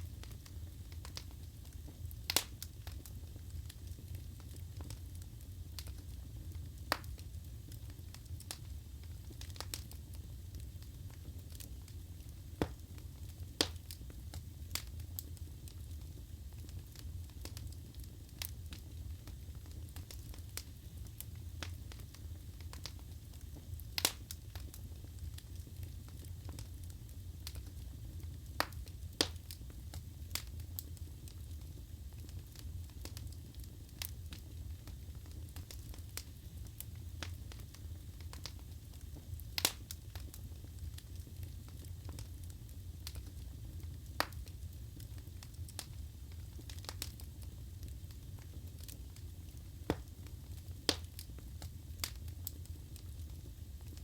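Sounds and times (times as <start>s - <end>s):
logs crackling and popping: 0.0s - 54.0s
wood fire rumbling: 0.0s - 54.0s.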